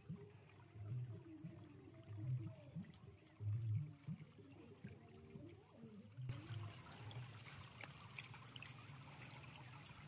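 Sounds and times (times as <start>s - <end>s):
faint water trickle: 0.0s - 10.0s.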